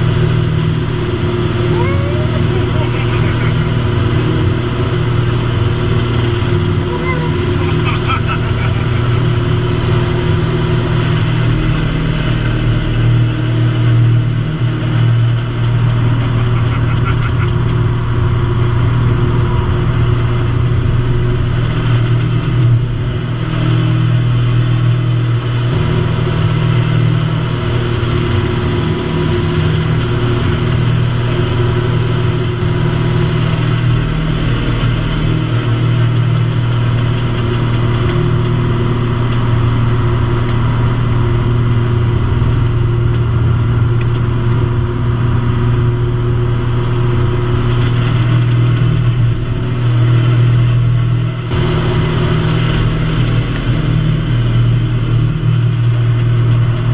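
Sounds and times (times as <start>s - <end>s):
propeller aircraft engine droning: 0.0s - 56.9s.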